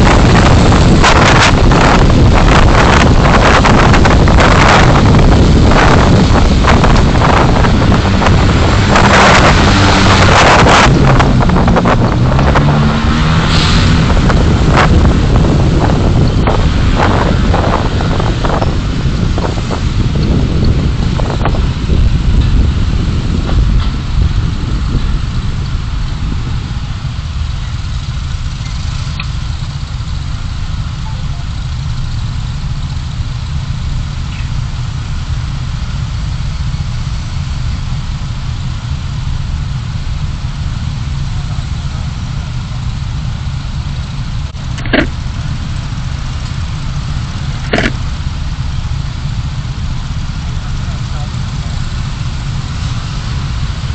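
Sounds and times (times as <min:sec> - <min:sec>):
car engine and road noise: 0:00.0 - 0:53.9.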